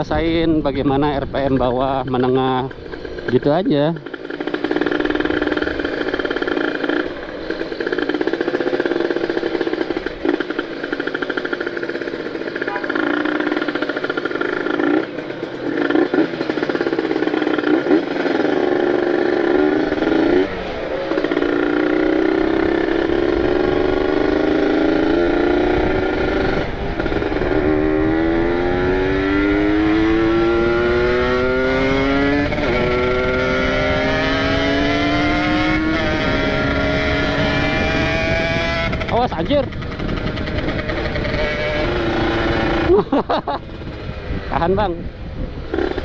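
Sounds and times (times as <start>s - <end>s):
two-stroke motorcycle engine revving: 0.0s - 46.0s.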